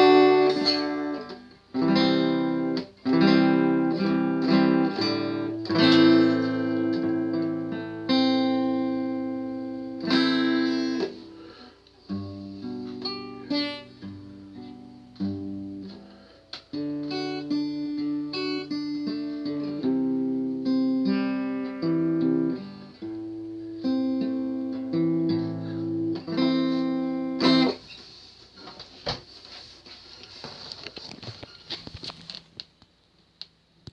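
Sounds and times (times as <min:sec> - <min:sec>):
acoustic guitar playing: 0:00.0 - 0:27.9.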